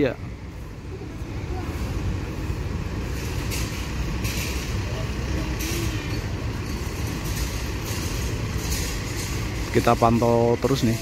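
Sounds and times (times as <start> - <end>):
diesel bus engines idling: 0.0 - 11.0.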